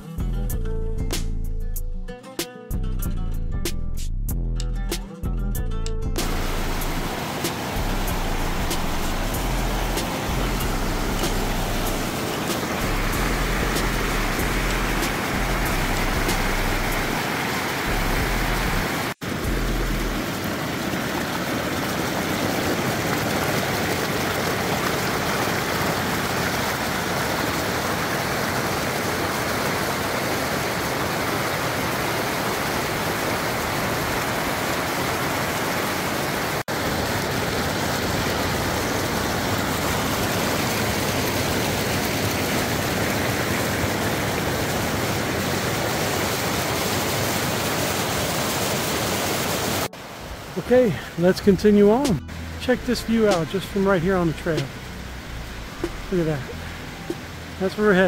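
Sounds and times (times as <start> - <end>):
creek water rushing: 6.2 - 58.0.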